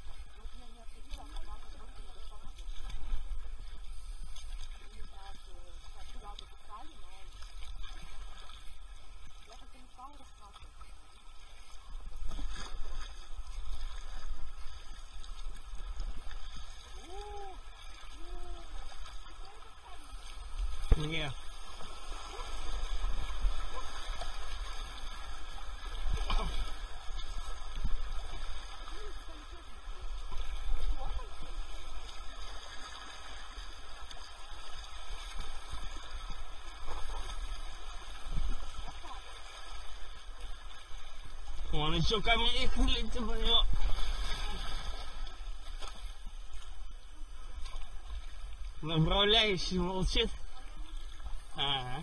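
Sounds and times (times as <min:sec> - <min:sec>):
paddle splashing in water: 0:00.0 - 0:52.0.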